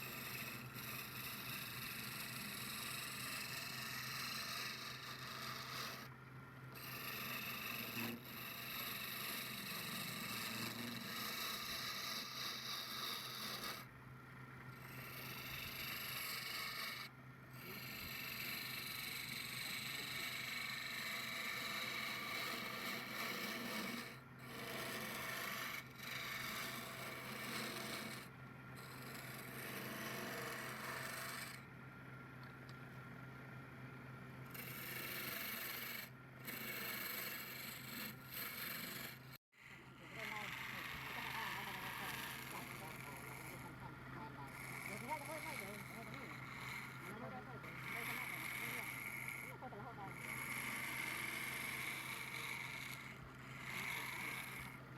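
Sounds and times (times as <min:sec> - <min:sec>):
turning tool scraping spinning wood: 0:00.0 - 0:06.1, 0:06.7 - 0:13.9, 0:14.8 - 0:31.7, 0:34.5 - 0:39.4, 0:40.0 - 0:54.9
steady lathe hum: 0:00.0 - 0:54.9.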